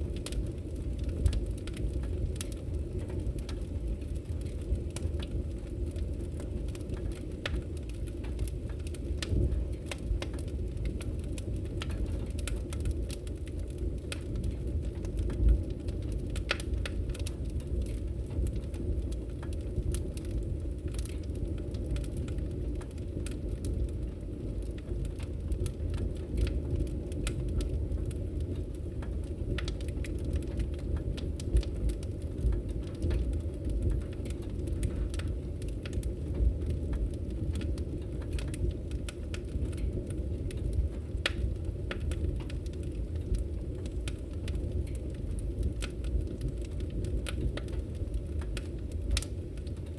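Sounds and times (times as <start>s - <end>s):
campfire burning: 0.0s - 49.9s
wood crackling and popping: 0.0s - 49.9s.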